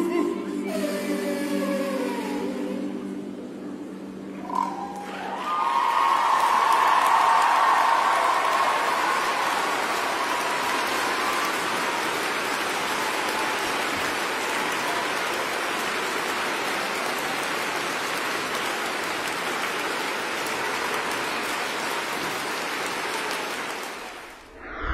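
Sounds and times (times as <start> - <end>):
audience applauding: 4.4 - 24.5.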